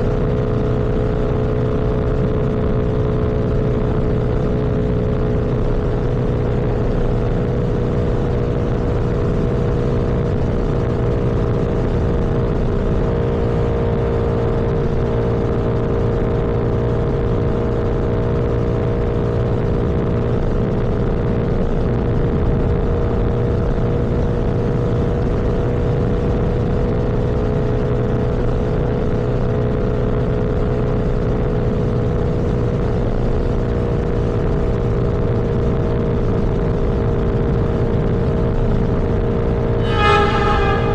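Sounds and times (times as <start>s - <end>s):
motorcycle engine cruising: 0.0s - 40.9s
road and wind noise: 0.0s - 40.9s.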